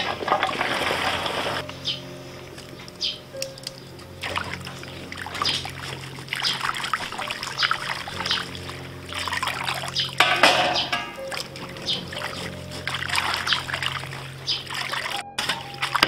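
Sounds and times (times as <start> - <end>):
water pouring off strainer: 0.0 - 1.6, 4.2 - 16.0
water sloshing in metal bowl: 0.0 - 1.7, 2.6 - 16.0.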